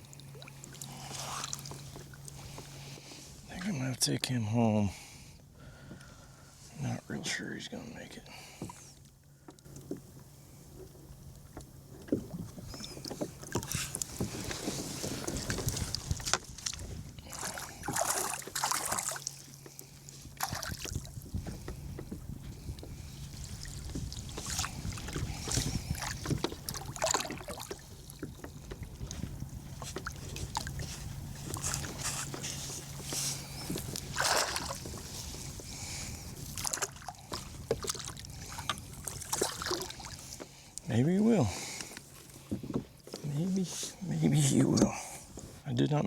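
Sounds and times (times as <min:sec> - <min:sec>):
water splashing around a kayak: 0:00.0 - 0:03.9, 0:09.6 - 0:45.6
steady low hum: 0:00.0 - 0:45.8.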